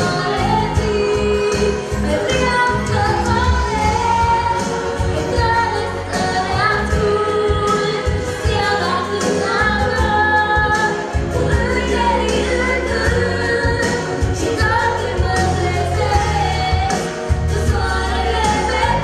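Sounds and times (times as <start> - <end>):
girl singing into microphone: 0.0 - 19.0.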